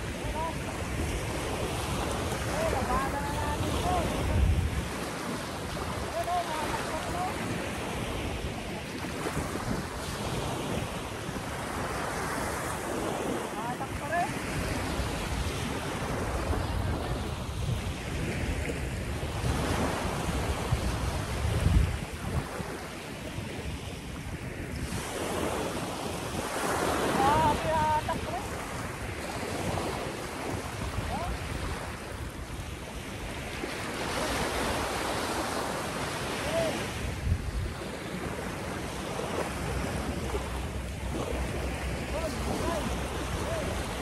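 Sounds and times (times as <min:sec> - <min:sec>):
small waves breaking on sand: 0:00.0 - 0:44.0
wind rumbling on microphone: 0:00.0 - 0:44.0.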